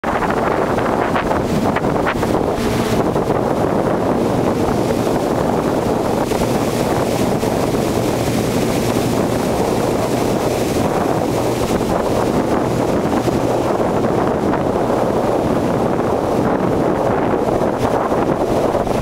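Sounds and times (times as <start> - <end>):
boat motor droning: 0.0 - 19.0
water rushing along hull: 0.0 - 19.0
wind buffeting microphone: 0.0 - 19.0.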